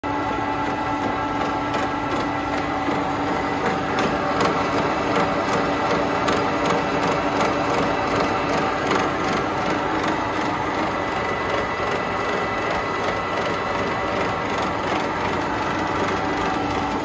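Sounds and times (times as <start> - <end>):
machine mechanical hum: 0.0 - 17.0.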